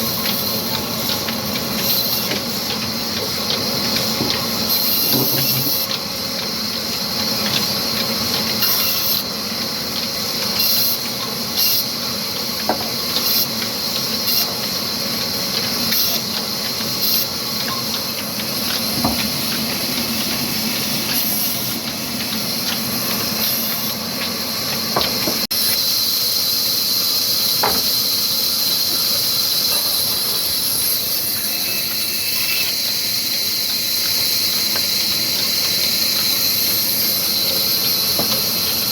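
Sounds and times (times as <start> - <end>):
wood-cutting saw hissing: 0.0 - 38.9.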